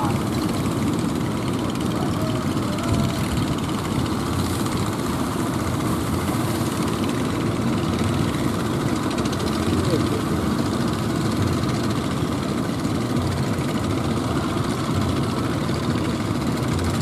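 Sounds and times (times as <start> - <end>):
boat engine running: 0.0 - 17.0
water washing under boat: 0.0 - 17.0.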